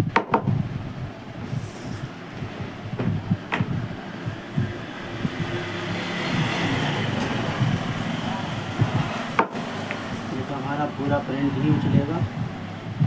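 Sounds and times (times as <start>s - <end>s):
road vehicle passing: 1.7s - 12.9s.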